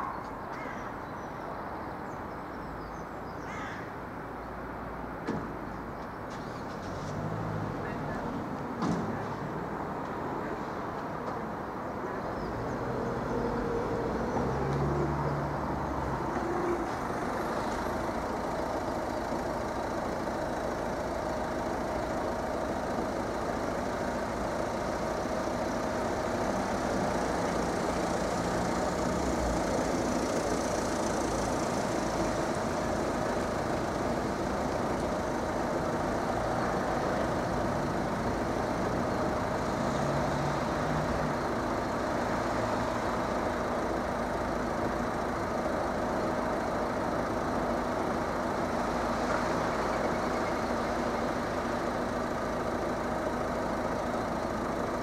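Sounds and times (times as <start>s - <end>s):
traffic engines idling: 0.0s - 55.0s.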